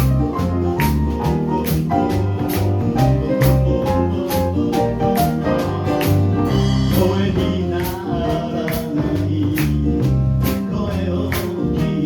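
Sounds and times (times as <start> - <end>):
jazz band playing: 0.0 - 12.0.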